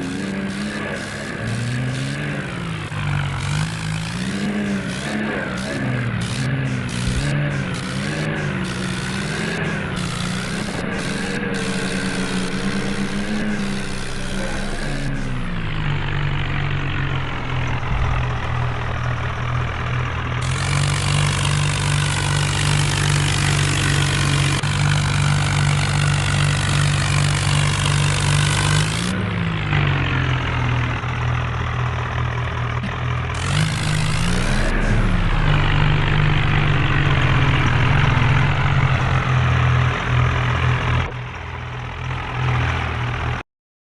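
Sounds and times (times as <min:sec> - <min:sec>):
tractor engine running: 0:00.0 - 0:43.4.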